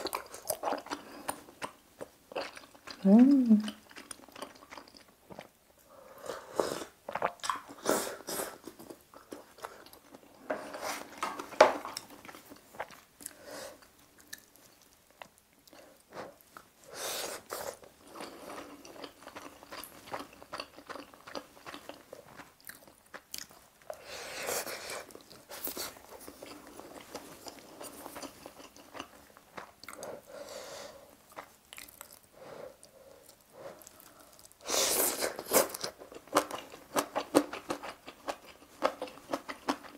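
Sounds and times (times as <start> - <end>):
chewing and crunching food: 0.0 - 6.0, 6.8 - 30.4, 31.1 - 39.9.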